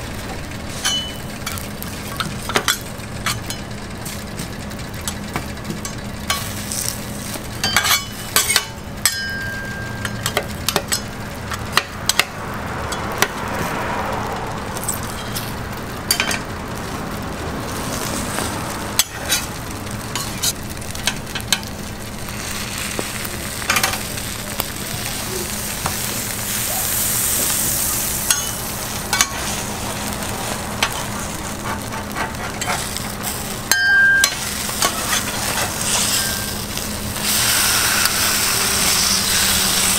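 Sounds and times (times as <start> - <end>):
egg sizzling on griddle: 0.0 - 39.9
steady low hum: 0.0 - 39.9.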